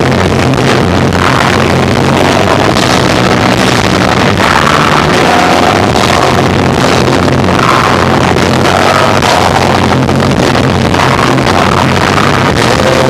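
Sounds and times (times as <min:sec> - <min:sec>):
distorted live rock band: 0:00.0 - 0:13.0.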